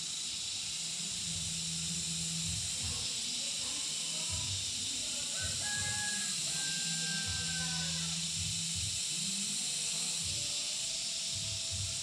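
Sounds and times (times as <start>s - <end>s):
steady high hiss: 0.0s - 12.0s
soft background music: 0.2s - 12.0s.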